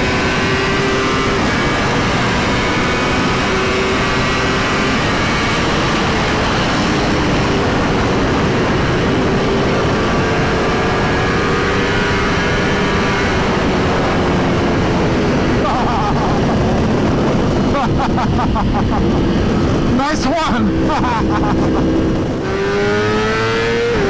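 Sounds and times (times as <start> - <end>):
motorcycle engine running: 0.0 - 24.0
wind rush on microphone: 0.0 - 24.0.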